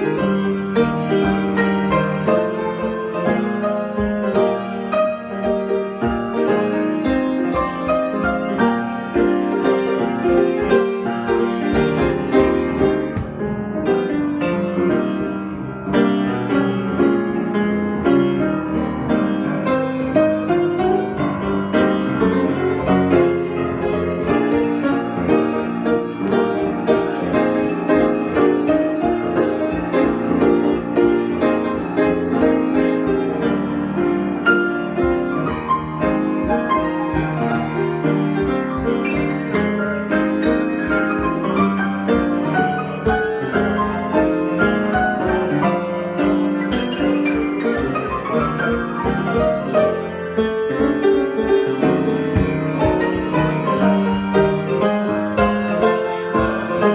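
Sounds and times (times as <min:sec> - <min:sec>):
solo piano improvisation: 0:00.0 - 0:56.9.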